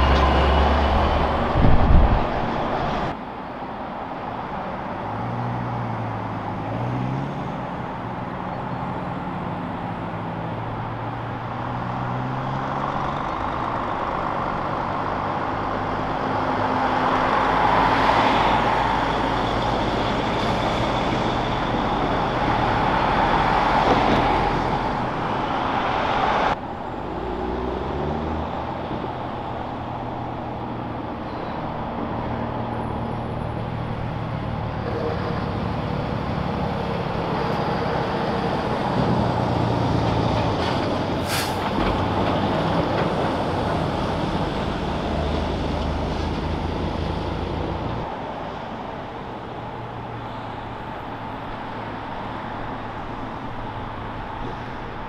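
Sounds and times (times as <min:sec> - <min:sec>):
heavy truck diesel engines: 0:00.0 - 0:55.0.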